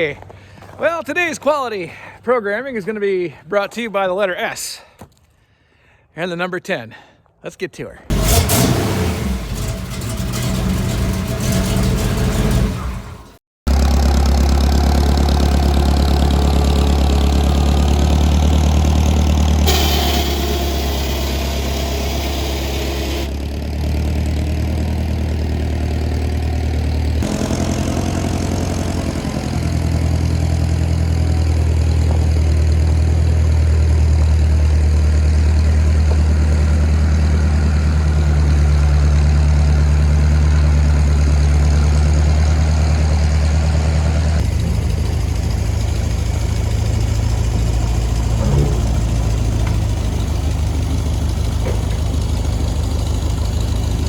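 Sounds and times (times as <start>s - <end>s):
forklift engine running: 8.1s - 54.0s.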